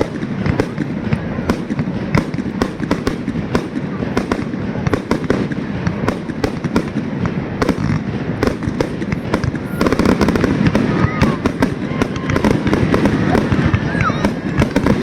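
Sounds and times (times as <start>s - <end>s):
fireworks popping and banging: 0.0s - 15.0s.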